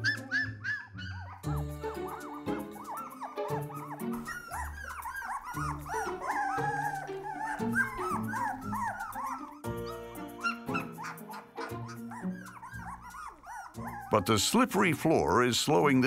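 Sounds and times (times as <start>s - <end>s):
puppies whimpering and squealing: 0.0s - 14.9s
background music: 0.0s - 16.0s.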